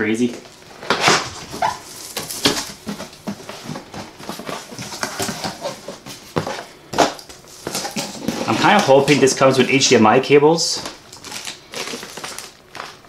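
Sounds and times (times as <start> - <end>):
cardboard box being opened: 0.8 - 9.8, 10.8 - 13.0.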